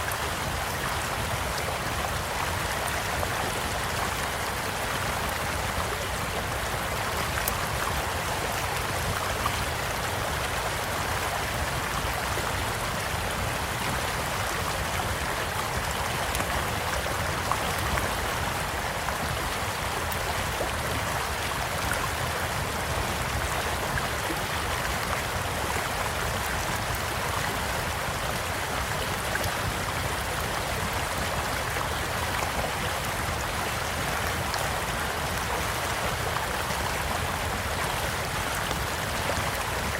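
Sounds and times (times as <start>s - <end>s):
shallow stream babbling: 0.0s - 39.9s.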